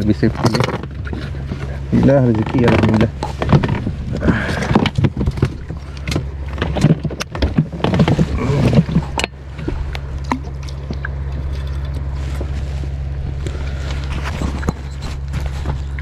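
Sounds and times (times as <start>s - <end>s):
knocks and clatter of handling: 0.0s - 16.0s
steady low hum: 0.0s - 16.0s.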